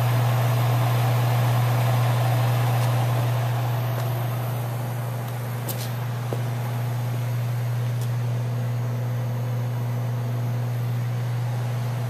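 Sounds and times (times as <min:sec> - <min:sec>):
fan hiss: 0:00.0 - 0:12.0
refrigerator hum: 0:00.0 - 0:12.0.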